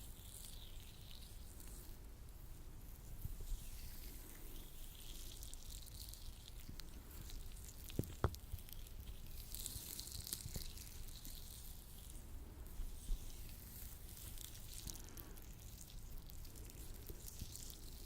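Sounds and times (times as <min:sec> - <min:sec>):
sticky latex gloves rubbing: 0:02.8 - 0:18.0.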